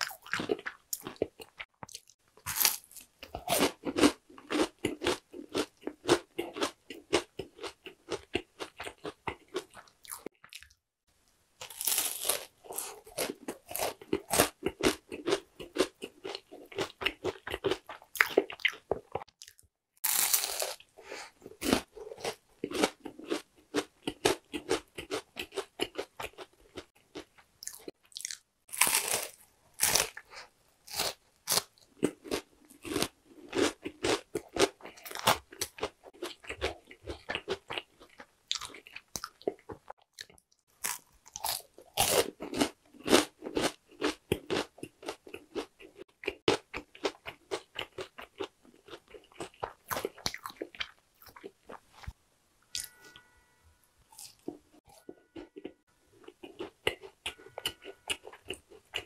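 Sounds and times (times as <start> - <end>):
crunching and chewing snack: 0.0 - 10.8, 11.6 - 52.2, 54.1 - 59.0.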